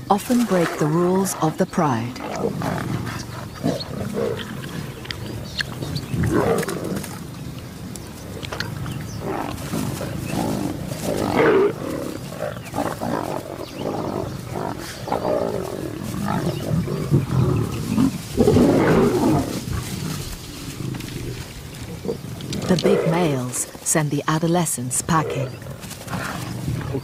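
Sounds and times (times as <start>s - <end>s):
lions growling: 0.0s - 23.9s, 25.0s - 27.0s.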